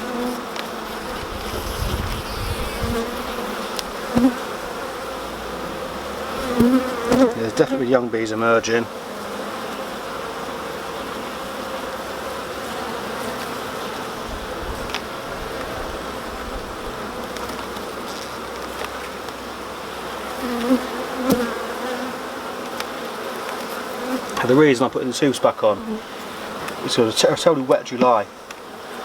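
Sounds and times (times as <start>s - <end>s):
bees humming: 0.0s - 29.0s.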